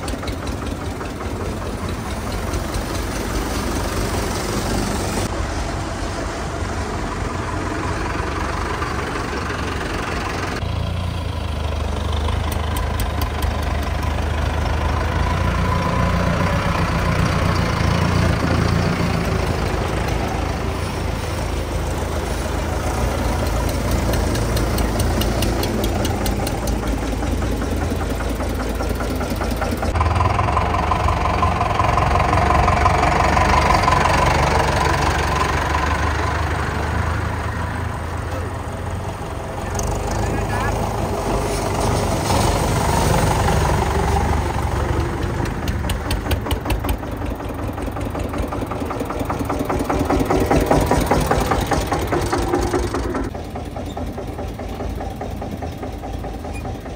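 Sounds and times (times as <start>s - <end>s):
diesel tractor engines rumbling: 0.0s - 56.9s.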